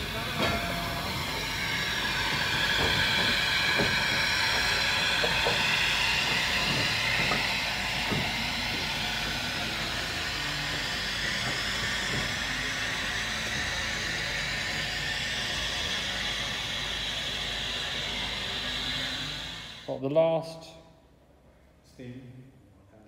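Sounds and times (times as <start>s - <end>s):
train wheels squealing on rails: 0.0s - 19.7s.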